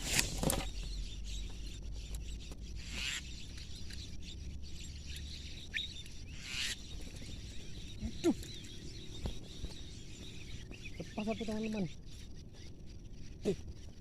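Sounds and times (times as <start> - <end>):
birds chirping: 0.0 - 14.0
faint insect hum: 0.0 - 14.0.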